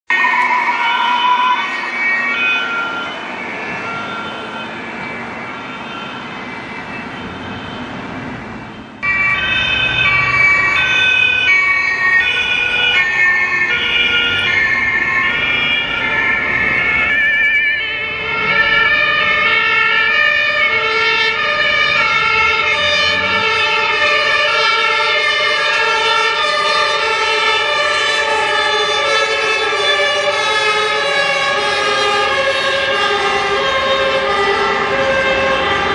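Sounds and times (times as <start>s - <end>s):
road traffic noise: 0.1s - 35.9s
two-tone sirens: 0.1s - 35.9s.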